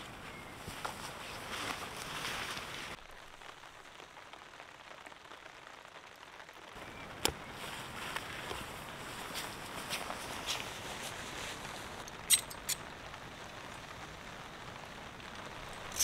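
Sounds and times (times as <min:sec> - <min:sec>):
rain on a tarp: 0:00.0 - 0:16.0.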